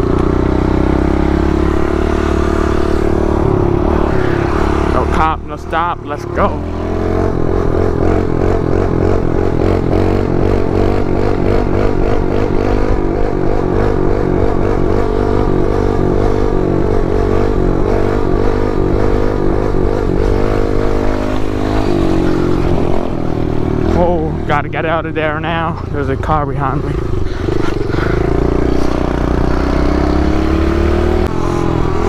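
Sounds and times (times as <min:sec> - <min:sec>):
motorbike engine running: 0:00.0 - 0:32.0.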